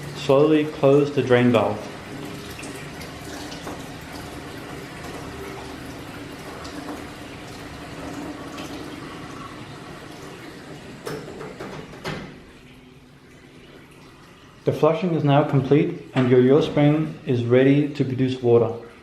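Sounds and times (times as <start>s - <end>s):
water running through drain valve: 0.0s - 19.0s.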